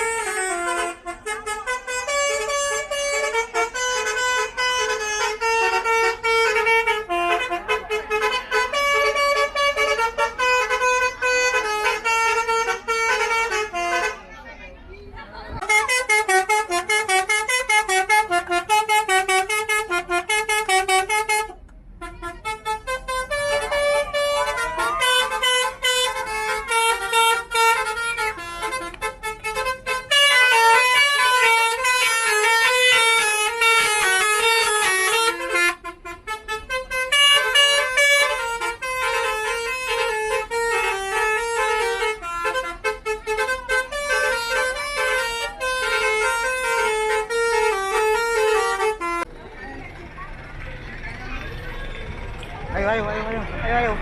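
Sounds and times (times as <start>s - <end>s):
bus horns playing tune: 0.0s - 14.5s, 15.6s - 49.3s.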